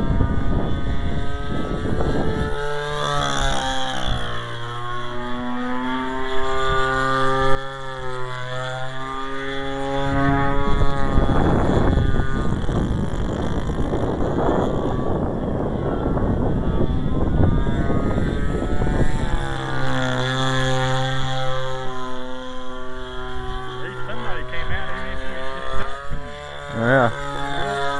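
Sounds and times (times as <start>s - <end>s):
model plane engine: 0.0s - 27.9s
wind buffeting microphone: 0.0s - 27.9s.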